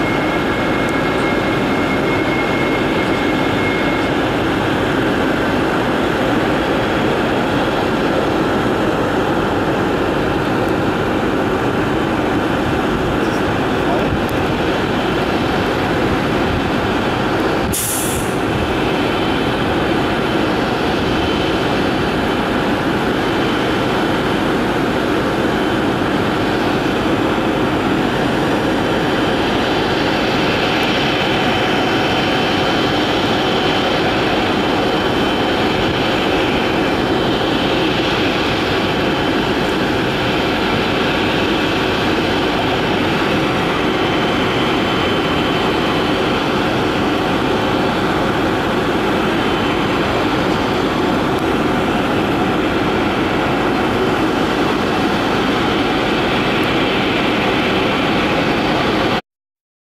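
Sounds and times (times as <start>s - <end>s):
high fan whine: 0.0s - 59.2s
jet engine rumble and hiss: 0.0s - 59.2s.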